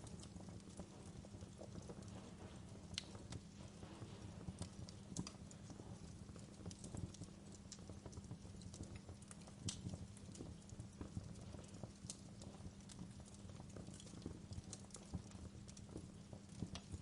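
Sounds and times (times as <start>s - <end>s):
fire crackles and pops: 0.0s - 17.0s
wood fire rumbling: 0.0s - 17.0s.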